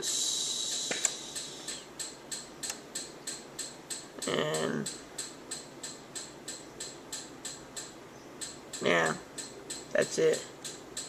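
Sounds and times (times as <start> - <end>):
rapid sharp ticking: 0.0 - 11.0.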